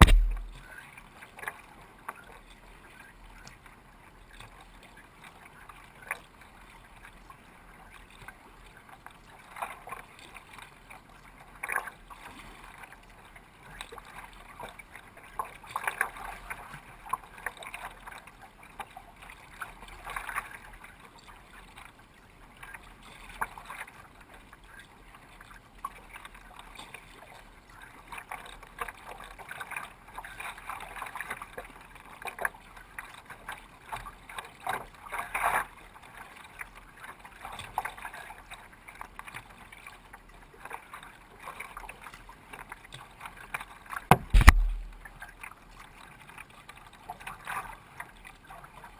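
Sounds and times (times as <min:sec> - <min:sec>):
water splashing around kayak: 0:00.0 - 0:48.9.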